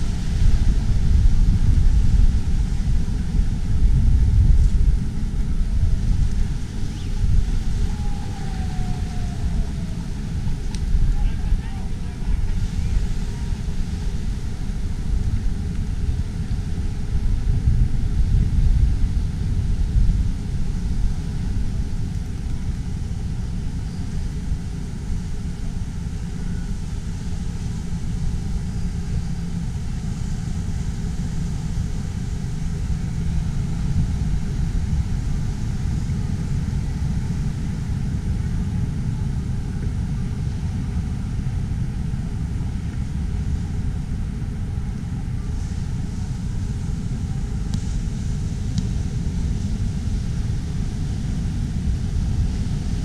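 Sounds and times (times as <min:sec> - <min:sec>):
low outdoor rumble: 0:00.0 - 0:53.0.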